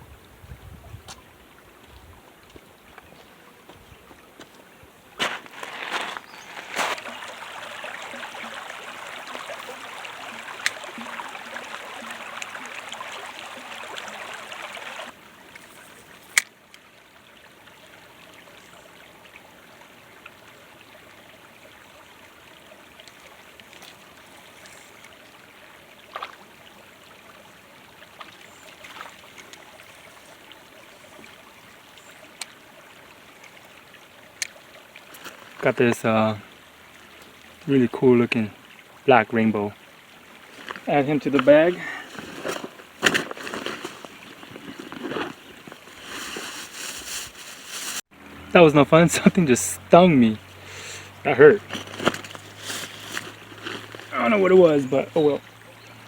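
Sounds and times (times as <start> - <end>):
creek water running over rocks: 0.0 - 56.0.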